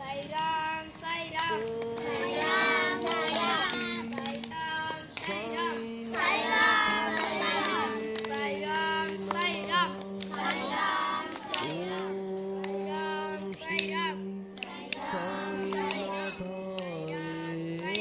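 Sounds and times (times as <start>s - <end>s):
children singing in unison: 1.4s - 4.5s, 5.1s - 18.0s.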